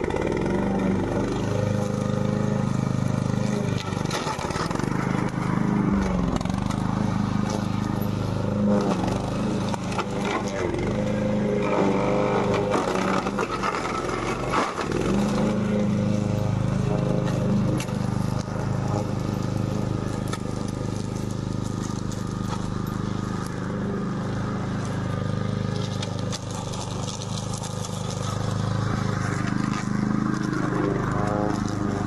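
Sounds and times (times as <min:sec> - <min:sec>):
robot lawn mower engine running: 0:00.0 - 0:32.0.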